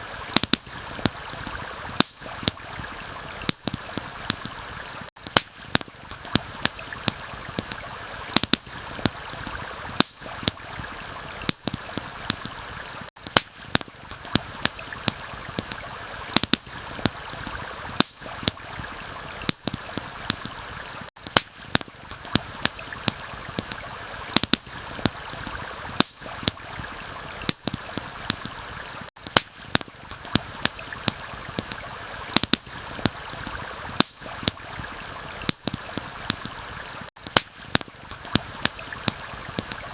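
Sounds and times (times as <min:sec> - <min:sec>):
campfire crackling and popping: 0:00.0 - 0:39.9
flowing water: 0:00.0 - 0:39.9.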